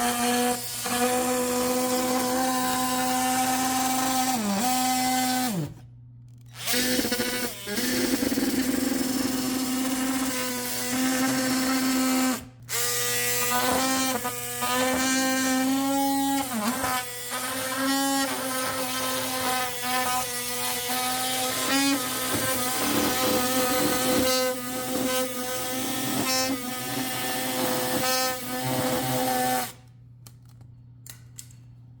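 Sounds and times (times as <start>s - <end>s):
multi-tool cutting wood: 0.0s - 5.8s, 6.5s - 29.8s.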